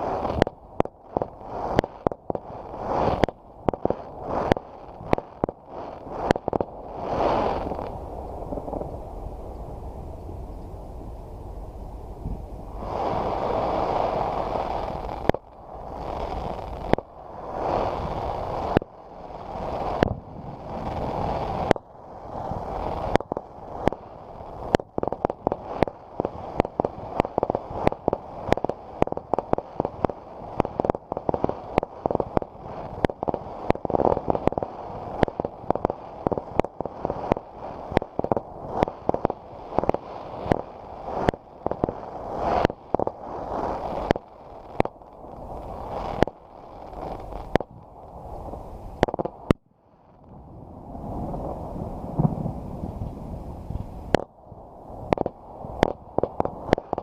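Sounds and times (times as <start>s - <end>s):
firecracker cracks and pops: 0.0s - 9.5s, 12.8s - 50.4s, 51.2s - 57.0s
firework bangs: 0.0s - 9.5s, 12.7s - 49.6s, 51.1s - 54.3s, 54.9s - 57.0s
rumbling fireworks: 0.0s - 57.0s.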